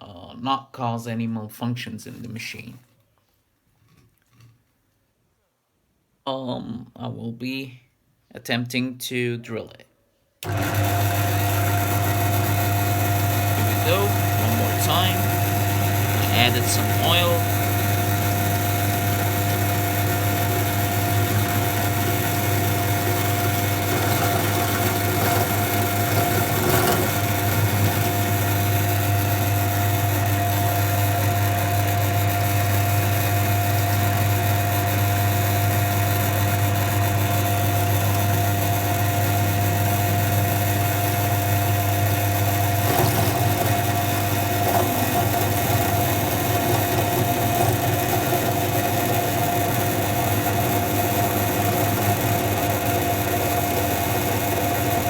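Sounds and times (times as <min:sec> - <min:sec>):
drill bit drilling metal: 0:10.4 - 0:55.0
drill press motor whine: 0:10.4 - 0:55.0.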